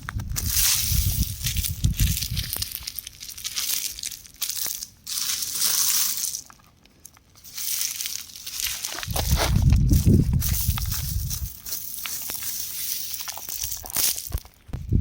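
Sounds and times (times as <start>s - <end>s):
rock crumbling and crackling: 0.0s - 15.0s.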